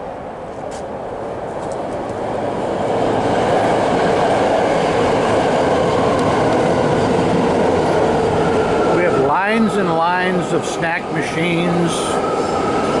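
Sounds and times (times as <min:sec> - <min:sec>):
train passing overhead: 0:00.0 - 0:13.0.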